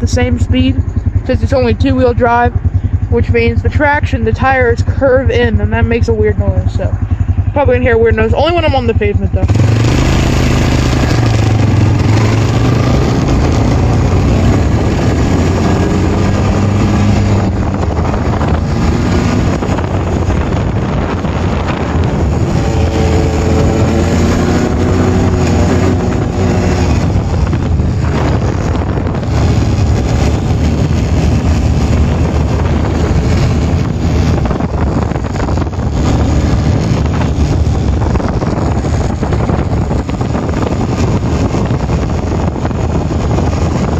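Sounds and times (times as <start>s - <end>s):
atv engine revving: 0.0s - 43.9s
wind buffeting microphone: 0.0s - 43.9s.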